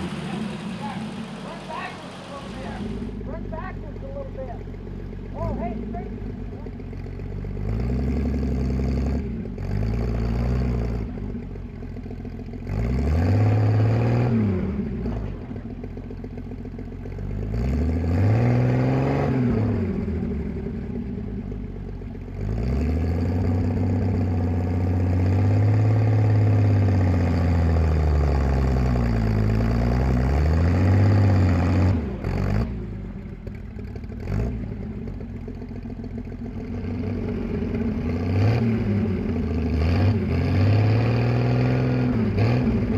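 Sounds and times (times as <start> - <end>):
truck engine revving: 0.0 - 11.5, 12.6 - 16.1, 17.1 - 21.6, 22.3 - 35.4, 36.4 - 42.9.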